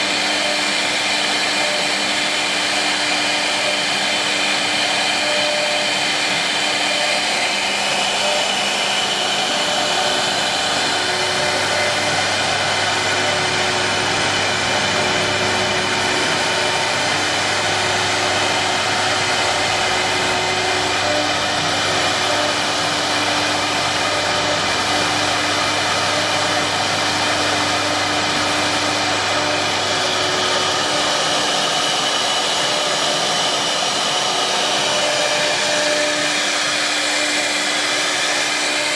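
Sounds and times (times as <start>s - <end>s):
hiss of cutting wood: 0.0s - 38.9s
router spindle whining: 0.0s - 38.9s.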